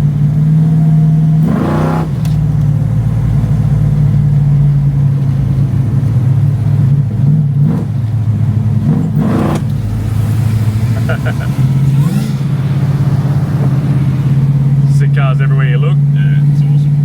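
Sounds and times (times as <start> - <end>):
car engine running at low revs: 0.0 - 17.0
engine revving: 0.0 - 17.0.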